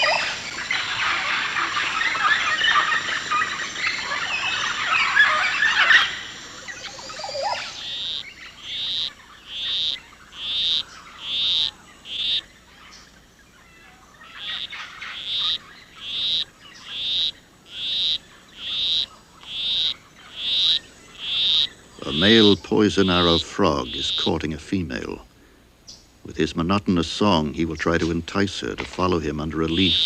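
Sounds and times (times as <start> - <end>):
frog chirping: 0.0 - 25.2, 29.6 - 30.0.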